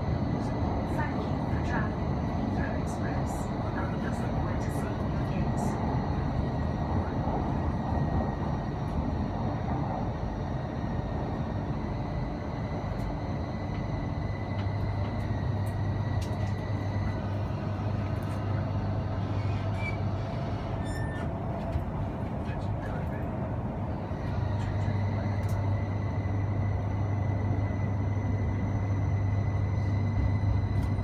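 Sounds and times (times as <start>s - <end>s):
deep train hum: 0.0s - 31.0s
electric train rumbling: 0.0s - 31.0s.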